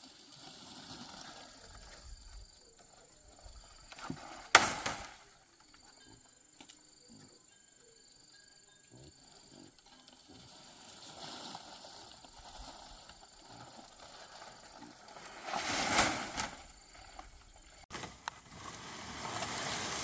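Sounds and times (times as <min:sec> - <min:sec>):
insects chirping: 0:00.1 - 0:18.4.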